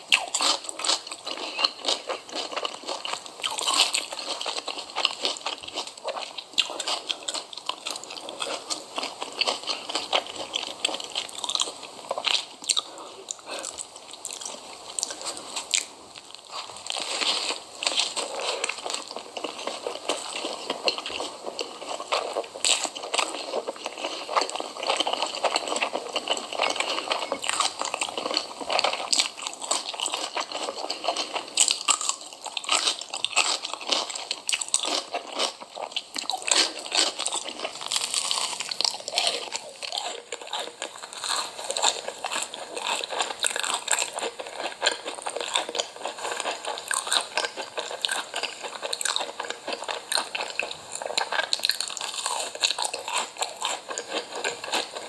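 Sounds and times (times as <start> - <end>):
person eating crunchy food: 0.0 - 55.0.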